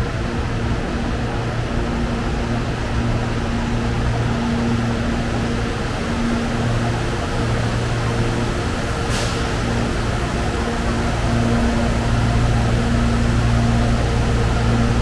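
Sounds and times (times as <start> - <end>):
constant rushing noise: 0.0 - 15.0
electric train humming: 0.0 - 15.0.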